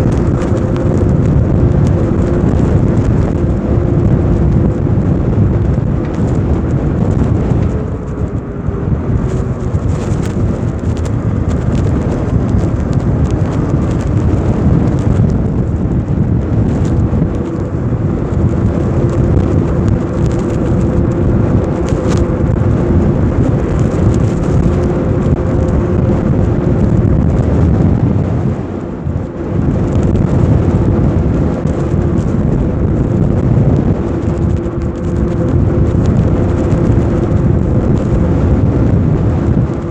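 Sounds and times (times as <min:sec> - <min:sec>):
steady hum: 0:00.0 - 0:39.9
wind buffeting microphone: 0:00.0 - 0:39.9.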